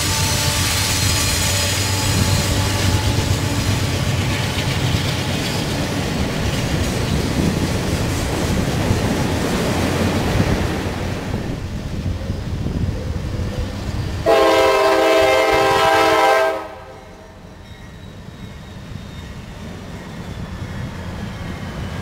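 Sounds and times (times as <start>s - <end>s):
locomotive engine drone: 0.0s - 22.0s
moving train noise: 0.0s - 22.0s.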